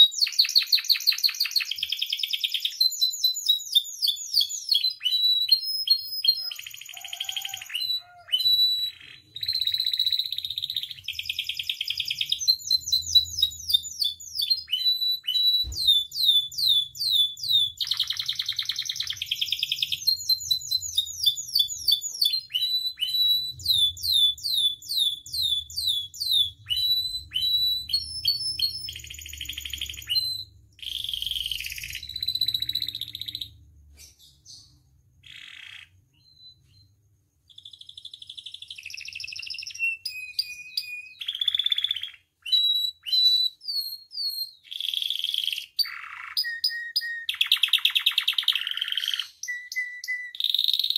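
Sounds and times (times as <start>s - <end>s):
canary singing: 0.0s - 50.9s.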